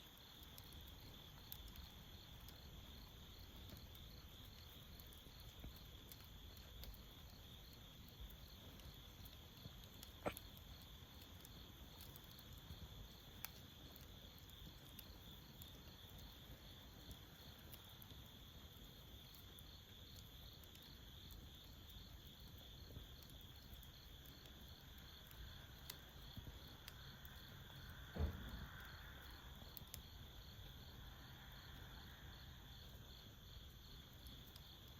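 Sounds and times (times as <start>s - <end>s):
charcoal fire crackling: 0.0s - 34.9s
crickets chirping: 0.1s - 34.9s.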